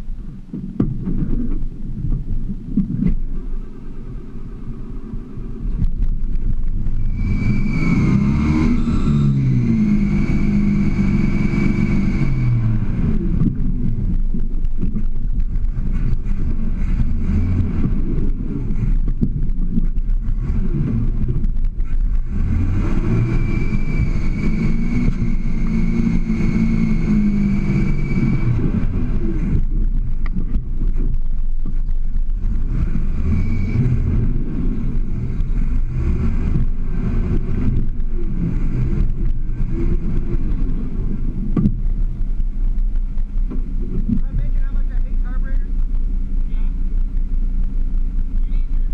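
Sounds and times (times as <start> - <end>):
engine revving under load: 4.6 - 48.9.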